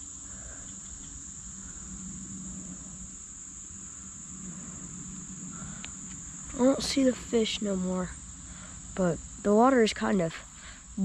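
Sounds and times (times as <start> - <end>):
crickets chirping: 0.0 - 11.0
low rumble: 0.0 - 11.0.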